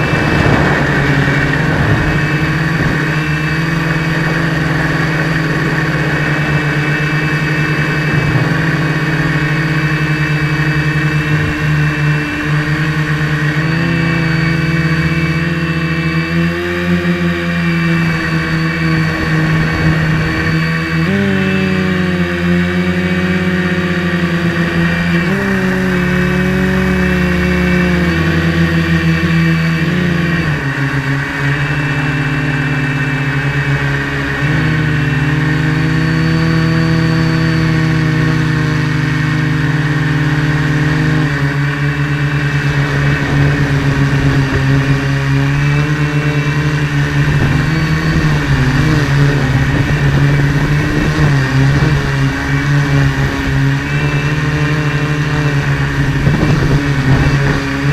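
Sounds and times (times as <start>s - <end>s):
drone propellers buzzing: 0.0s - 57.9s
steady high whine: 0.0s - 57.9s.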